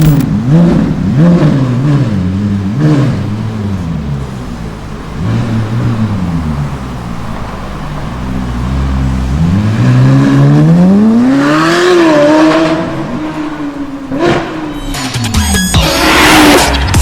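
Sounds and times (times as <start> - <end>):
sports car engine revving: 0.0 - 14.8.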